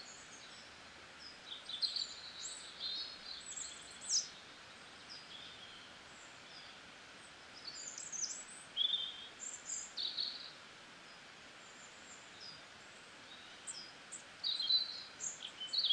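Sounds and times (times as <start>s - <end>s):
faint steady hiss: 0.0s - 15.9s
small birds chirping: 0.0s - 15.9s.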